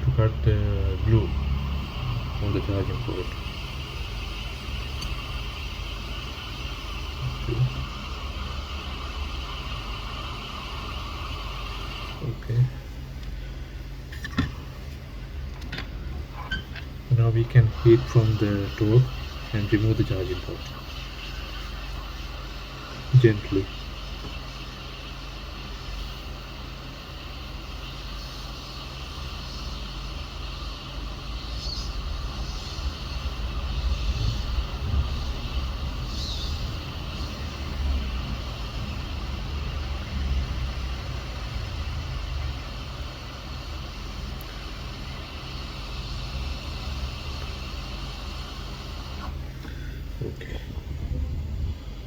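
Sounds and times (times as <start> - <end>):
hot air station blowing: 0.0 - 52.0
low hum with hiss: 0.0 - 52.0.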